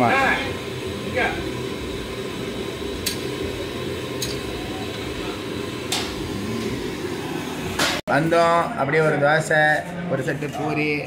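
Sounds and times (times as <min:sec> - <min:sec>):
restaurant background noise: 0:00.0 - 0:11.0.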